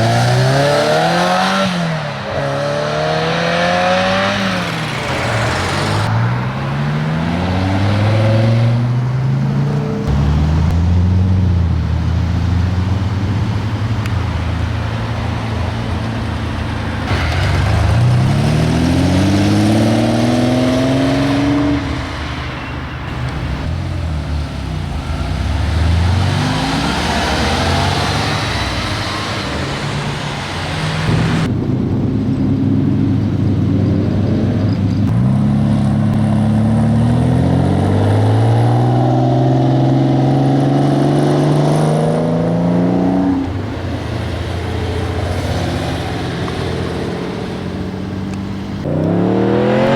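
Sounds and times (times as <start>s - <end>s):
sports car engines revving: 0.0s - 49.9s.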